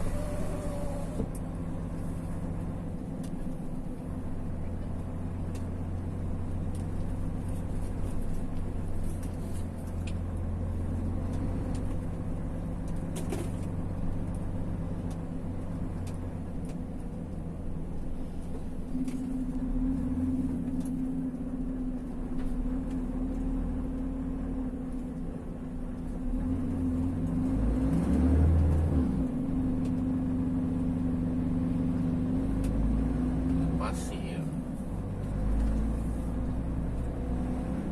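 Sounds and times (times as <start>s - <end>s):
vehicle engine and road noise: 0.0s - 37.9s.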